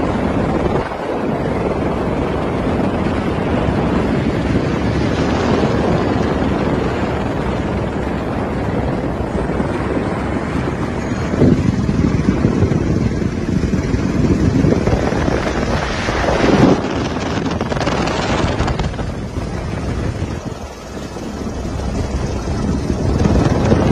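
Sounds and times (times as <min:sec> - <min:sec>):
helicopter rotor and engine roar: 0:00.0 - 0:23.9
wind buffeting microphone: 0:00.0 - 0:23.9.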